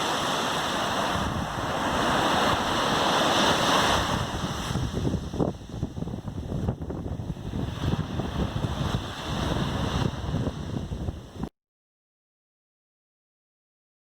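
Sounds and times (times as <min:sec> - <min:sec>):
ocean surf: 0:00.0 - 0:11.5
wind buffeting microphone: 0:00.2 - 0:11.5.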